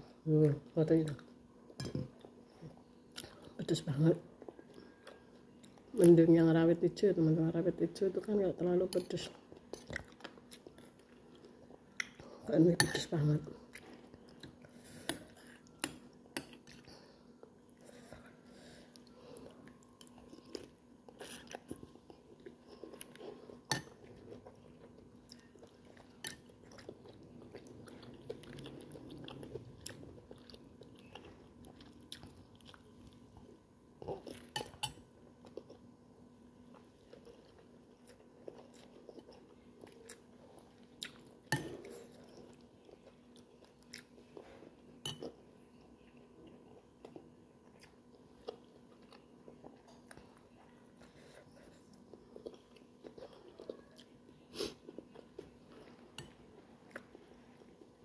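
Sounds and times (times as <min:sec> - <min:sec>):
person chewing food: 0:09.5 - 0:12.3, 0:13.6 - 0:35.9, 0:36.6 - 0:58.0.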